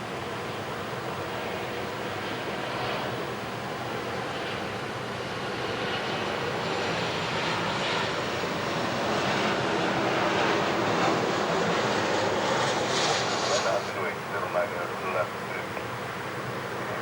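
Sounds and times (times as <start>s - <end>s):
airliner engine rushing: 0.0s - 17.0s.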